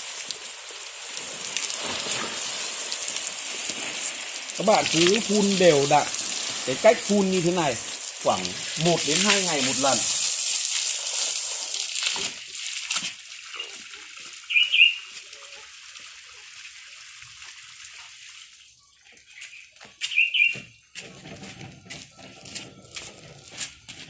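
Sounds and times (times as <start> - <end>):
garden hose spraying water: 0.0 - 21.4.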